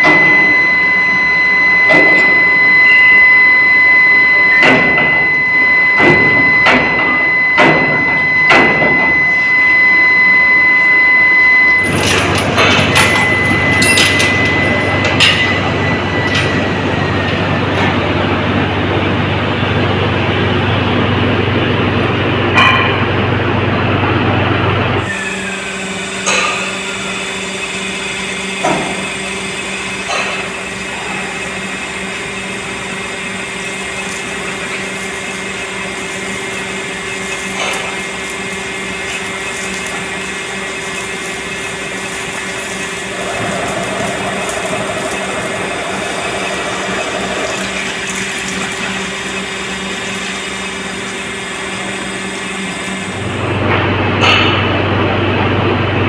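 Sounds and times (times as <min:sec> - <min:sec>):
furnace electrical hum and whine: 0:00.0 - 0:56.0.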